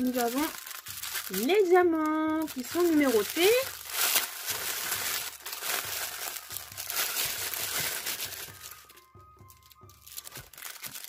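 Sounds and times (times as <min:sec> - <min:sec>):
light background music: 0:00.0 - 0:11.0
plastic packaging crinkling: 0:00.0 - 0:11.0.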